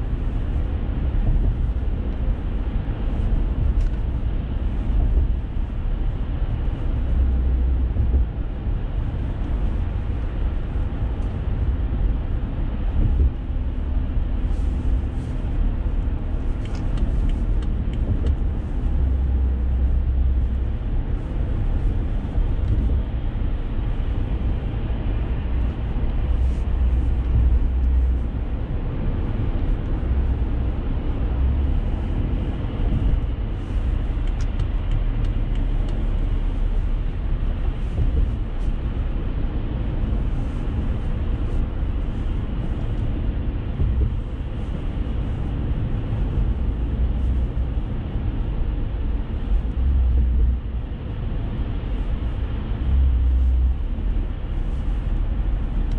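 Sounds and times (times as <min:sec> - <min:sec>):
road and engine rumble: 0:00.0 - 0:55.9.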